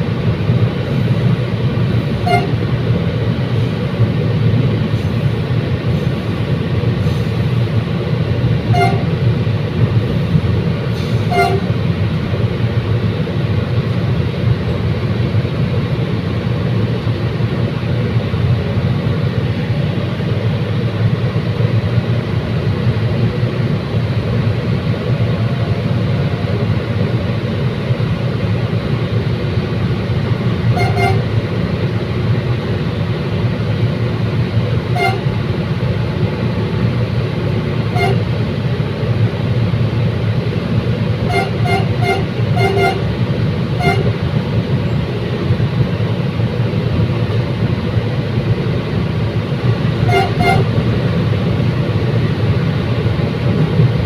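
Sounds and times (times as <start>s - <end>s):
train rumbling along track: 0.0s - 54.0s.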